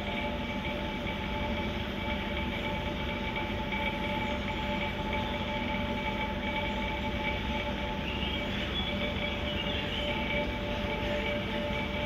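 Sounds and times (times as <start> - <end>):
air pumps humming and hissing: 0.0 - 12.0.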